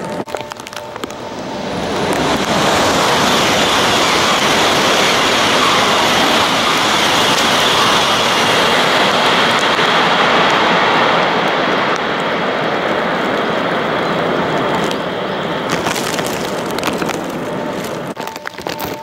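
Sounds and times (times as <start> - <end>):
train passing at high speed: 0.0 - 19.0.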